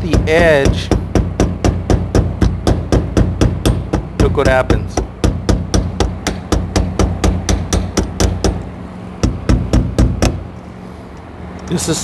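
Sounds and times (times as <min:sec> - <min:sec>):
hammer tapping on vinyl over metal: 0:00.0 - 0:10.5.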